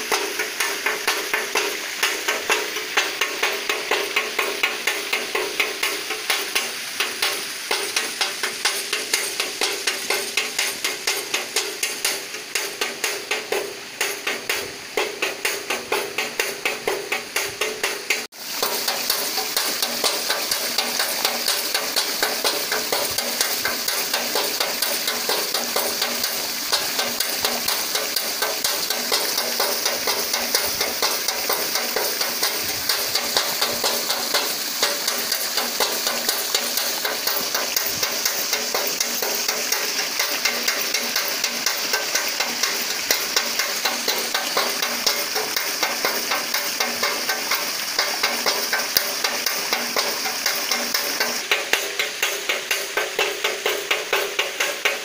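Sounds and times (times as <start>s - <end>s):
regular knocking against metal: 0.0s - 55.0s
water pouring and splashing: 0.0s - 55.0s.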